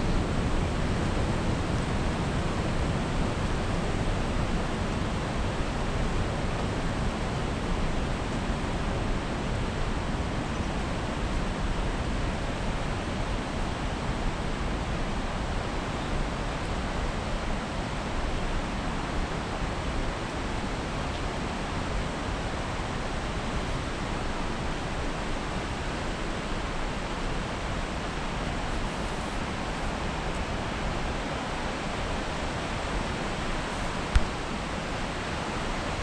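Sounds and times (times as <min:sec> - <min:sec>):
creek water rushing: 0:00.0 - 0:36.0.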